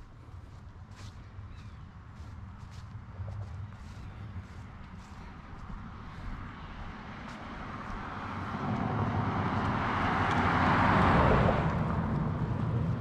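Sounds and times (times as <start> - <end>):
vehicle passing by: 2.2 - 13.0.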